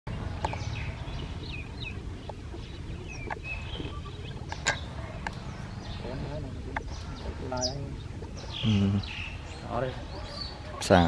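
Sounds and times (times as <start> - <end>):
high chirping animal calls: 0.4 - 11.0.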